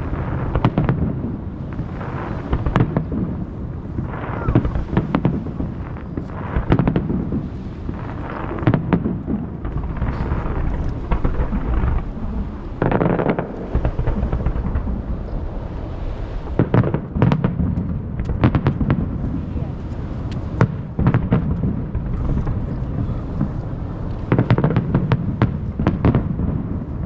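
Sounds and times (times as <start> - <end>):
firework crackling reports: 0.0 - 27.0
fireworks booming with echo: 0.0 - 27.0.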